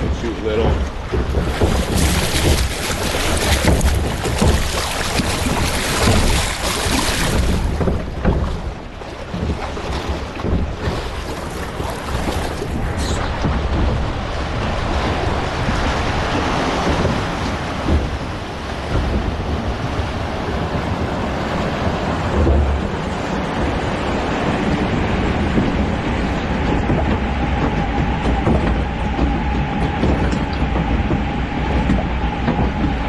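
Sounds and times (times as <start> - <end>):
ride machinery rumble: 0.0 - 33.0
rushing water and wind: 0.0 - 33.0.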